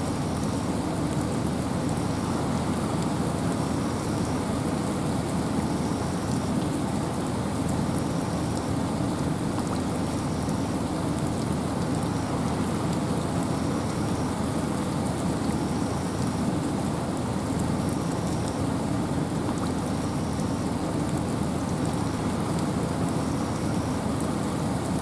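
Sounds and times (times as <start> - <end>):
rain and wind hiss: 0.0 - 25.0.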